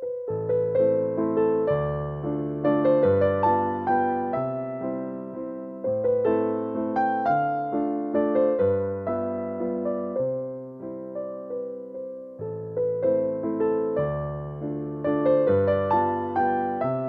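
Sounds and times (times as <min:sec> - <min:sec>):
slow keyboard melody: 0:00.0 - 0:17.0.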